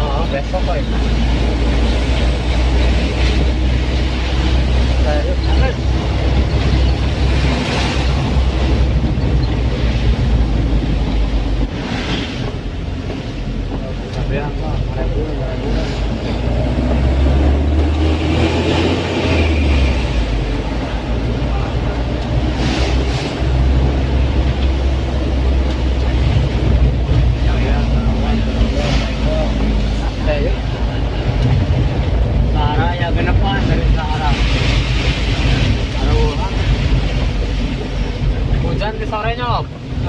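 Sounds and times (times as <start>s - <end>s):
engine and road rumble: 0.0s - 40.0s.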